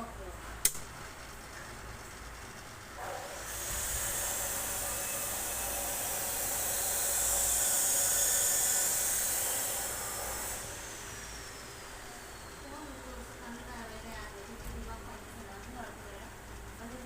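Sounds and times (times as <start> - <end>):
faint motor whine: 0.0 - 17.0.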